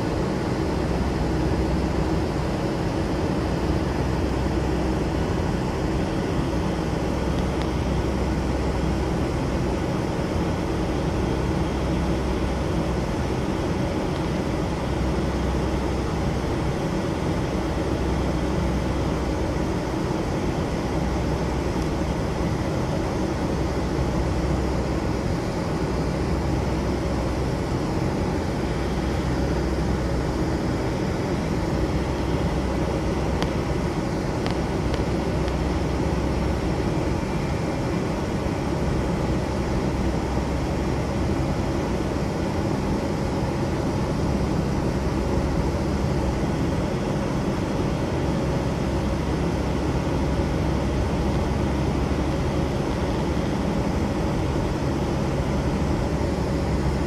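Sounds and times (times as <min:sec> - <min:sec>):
jet engines at climb power: 0:00.0 - 0:57.0.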